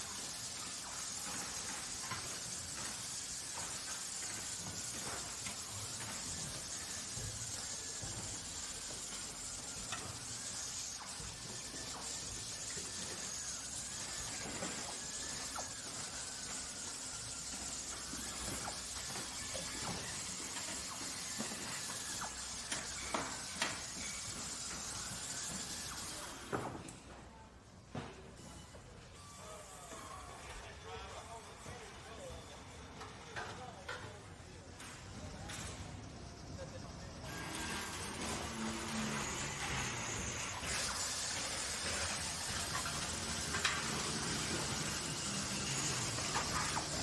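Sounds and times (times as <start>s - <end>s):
machinery running with hiss: 0.0s - 27.2s, 28.4s - 47.0s.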